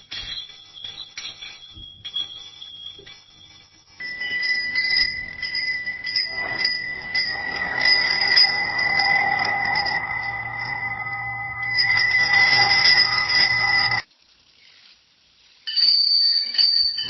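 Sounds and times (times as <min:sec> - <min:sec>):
bicycle bell ringing: 0:00.0 - 0:14.0, 0:15.7 - 0:17.0
background noise: 0:00.0 - 0:17.0.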